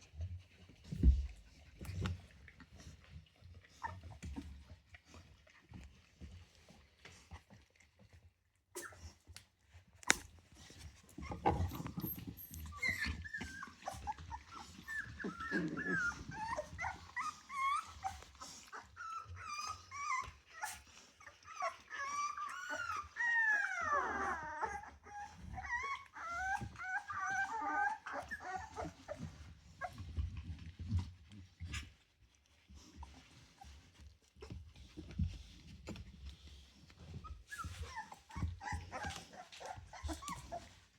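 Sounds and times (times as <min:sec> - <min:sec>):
puppies whining and squeaking: 0:00.0 - 0:40.9.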